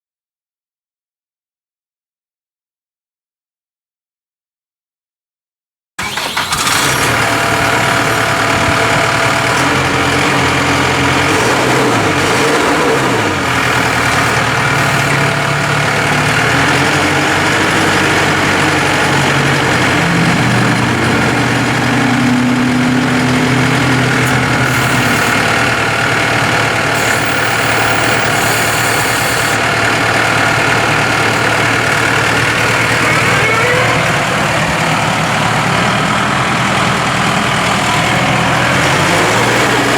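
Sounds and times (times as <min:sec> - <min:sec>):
tractor diesel engine idling: 0:06.0 - 0:39.9.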